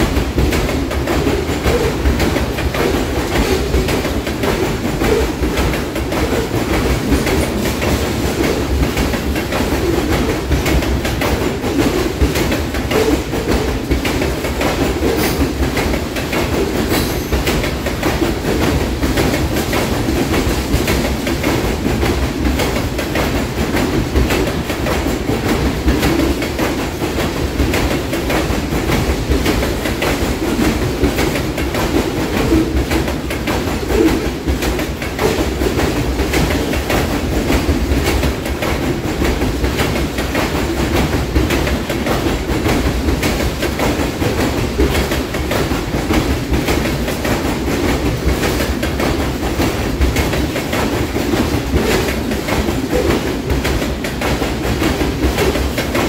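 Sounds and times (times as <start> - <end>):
freight train rumbling past: 0.0 - 56.0
wheels clicking over rails: 0.0 - 56.0.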